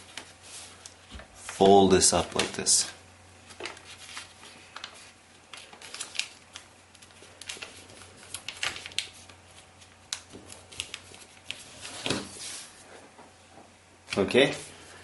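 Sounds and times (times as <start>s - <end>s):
paper crackling and rustling: 0.0s - 2.8s, 3.4s - 12.8s.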